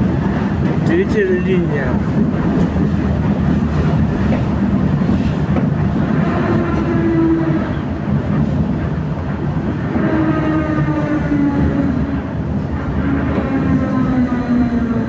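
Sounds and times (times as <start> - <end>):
tram rolling rumble: 0.0 - 15.0
tram motor whine: 2.6 - 15.0.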